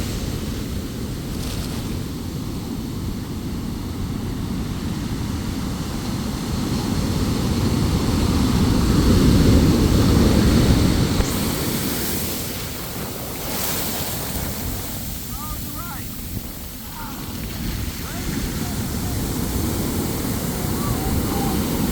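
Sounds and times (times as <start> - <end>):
ocean waves breaking: 0.0 - 21.9
surf washing: 0.0 - 21.9
wind rumble on microphone: 0.0 - 21.9.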